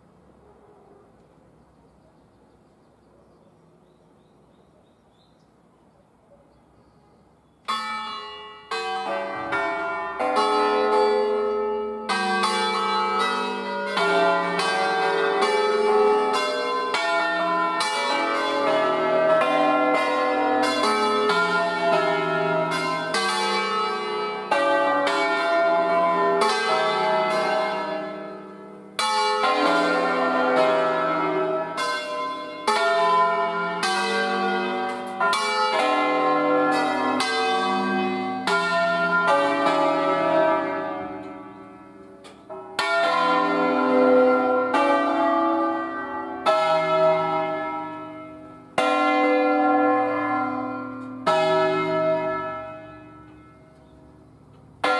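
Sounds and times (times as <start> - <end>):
church bells ringing: 7.6 - 54.9.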